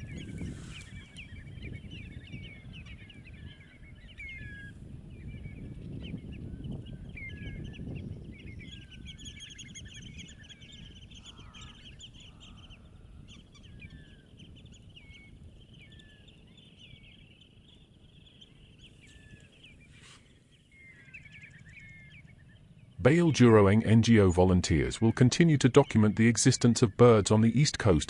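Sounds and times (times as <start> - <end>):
flock of birds chirping: 0.0 - 28.0.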